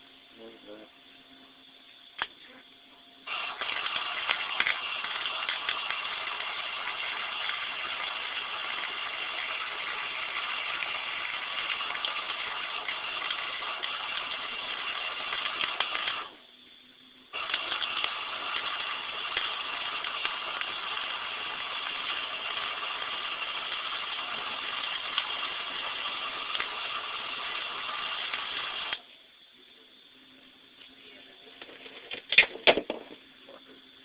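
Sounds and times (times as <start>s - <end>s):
arc welding crackling hiss: 0.0s - 34.0s.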